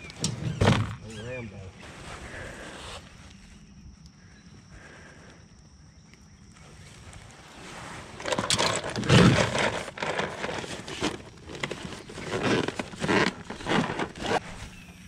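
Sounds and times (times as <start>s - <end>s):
rustling and crinkling: 0.0s - 4.1s, 6.4s - 14.9s.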